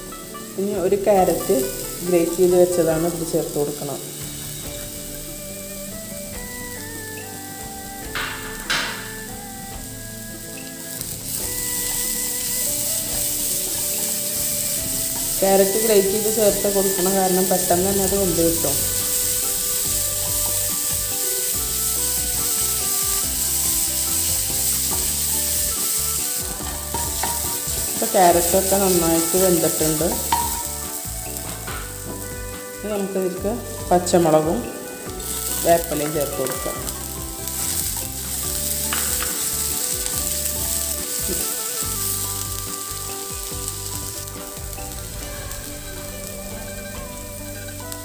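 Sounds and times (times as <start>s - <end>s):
vegetables sizzling: 0.0s - 48.0s.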